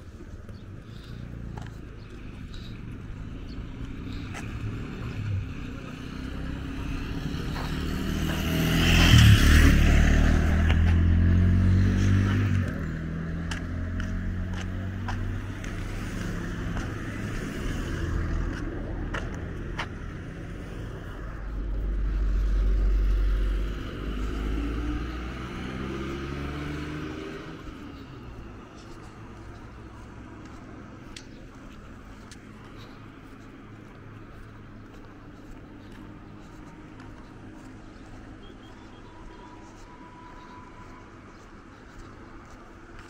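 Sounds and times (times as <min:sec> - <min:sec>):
vehicle engines passing: 0:00.0 - 0:43.0
engine speeding up: 0:02.5 - 0:38.5.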